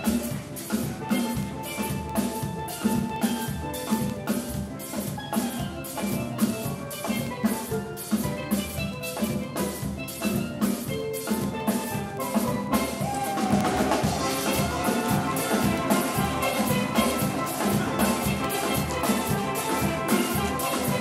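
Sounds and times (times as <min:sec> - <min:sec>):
drum kit beat: 0:00.0 - 0:21.0
steel pans playing melody: 0:00.0 - 0:21.0.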